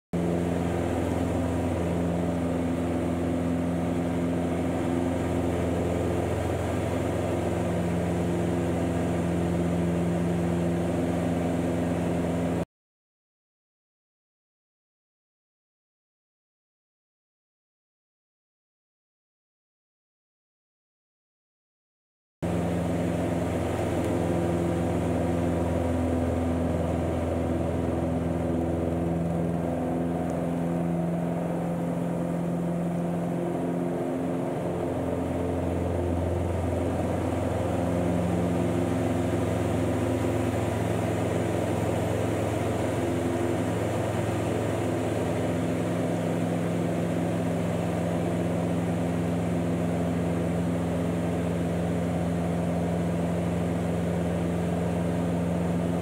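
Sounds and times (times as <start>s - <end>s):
light aircraft engine and propeller: 0.1s - 12.7s, 22.4s - 56.0s.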